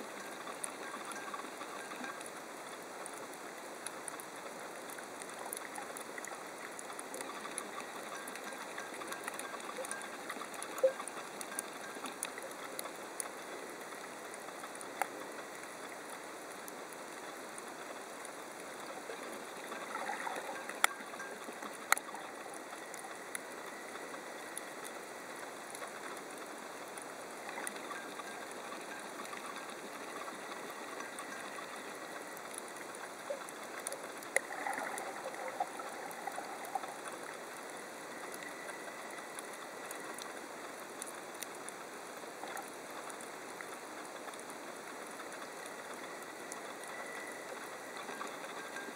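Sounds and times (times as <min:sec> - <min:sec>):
sharp underwater clicks and crackles: 0:00.0 - 0:48.9.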